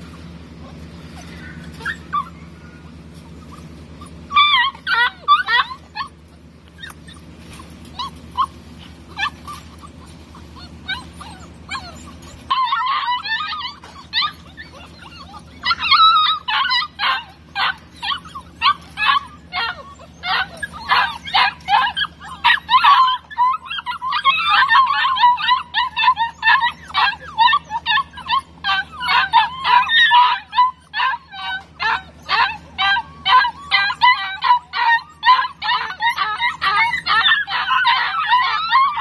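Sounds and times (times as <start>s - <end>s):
puppies whining and yipping: 0.0s - 39.0s
steady low hum: 0.0s - 39.0s.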